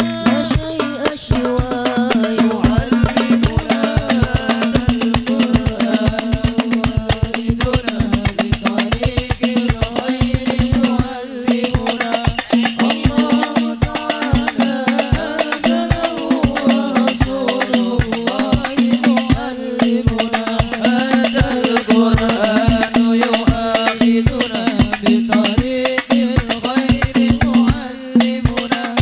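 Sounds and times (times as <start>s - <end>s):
frame drums beating fast rhythm: 0.0s - 29.0s
person singing: 0.0s - 29.0s.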